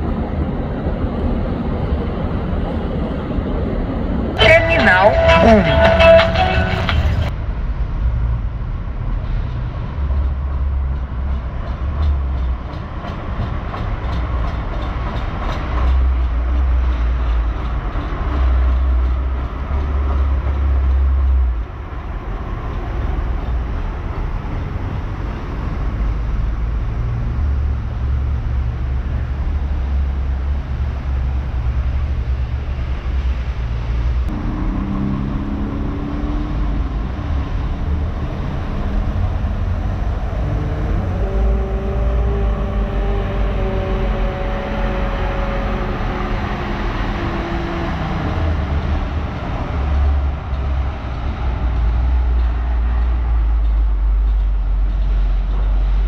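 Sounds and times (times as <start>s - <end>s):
wind rumble on microphone: 7.2s - 56.0s.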